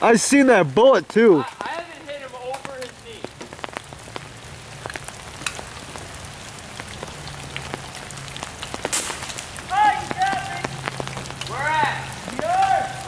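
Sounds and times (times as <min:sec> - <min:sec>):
rain falling on leaves: 0:00.0 - 0:13.0
sharp ticks of raindrops: 0:00.0 - 0:13.0.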